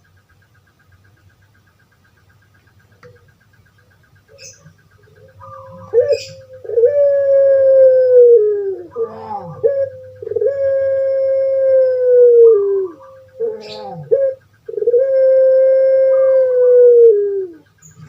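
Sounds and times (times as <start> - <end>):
dove cooing: 3.0 - 18.0.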